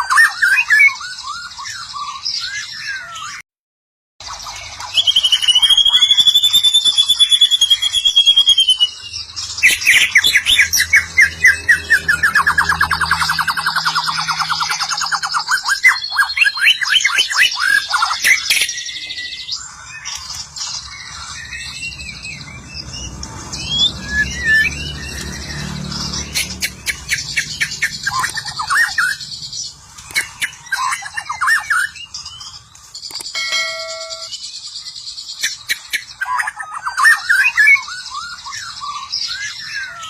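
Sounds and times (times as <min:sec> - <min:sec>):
bird singing varied song: 0:00.0 - 0:03.4, 0:04.2 - 0:40.0.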